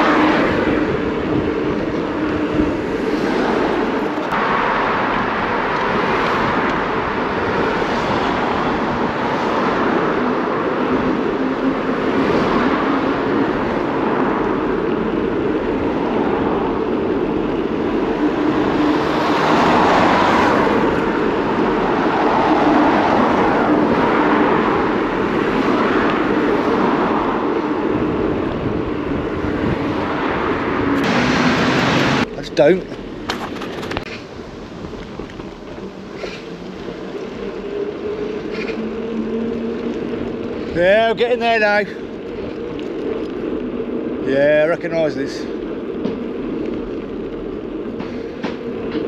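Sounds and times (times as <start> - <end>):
bicycle road noise: 0.0 - 49.0
wind noise: 0.0 - 49.0.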